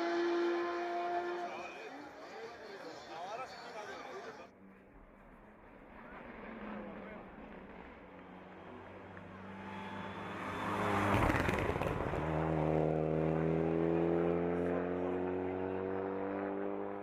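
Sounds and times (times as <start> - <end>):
race car passing by: 0.0 - 17.0.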